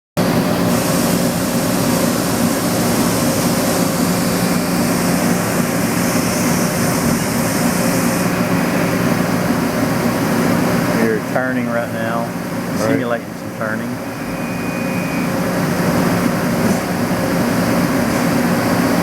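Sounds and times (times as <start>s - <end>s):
machine humming: 0.2s - 19.0s.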